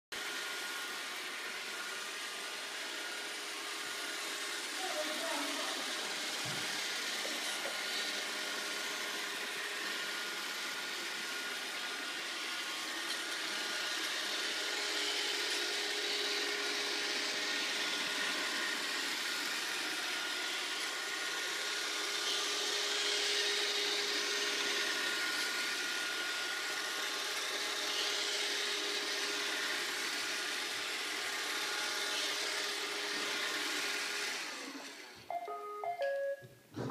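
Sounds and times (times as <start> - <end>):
robot vacuum cleaner whirring: 0.2 - 35.3.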